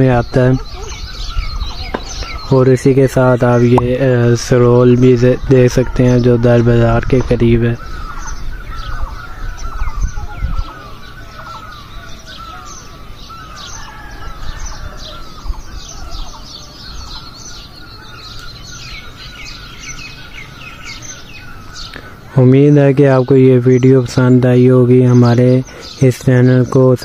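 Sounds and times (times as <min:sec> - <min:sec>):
wild birds chirping and singing: 0:00.0 - 0:27.0.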